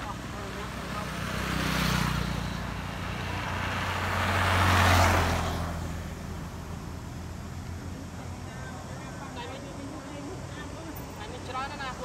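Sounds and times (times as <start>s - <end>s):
vehicles passing by: 0.0s - 12.0s.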